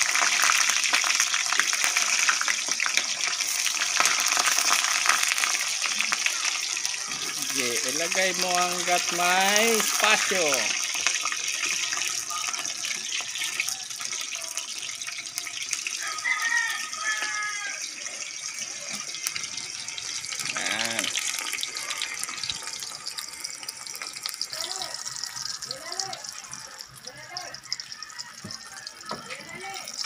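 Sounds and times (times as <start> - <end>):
oil sizzling in a pan: 0.0 - 30.0.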